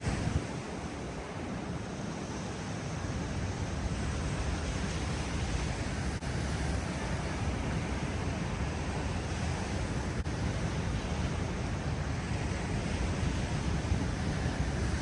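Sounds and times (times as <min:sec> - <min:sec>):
ocean surf: 0:00.0 - 0:15.0
wind rumbling on microphone: 0:00.0 - 0:15.0.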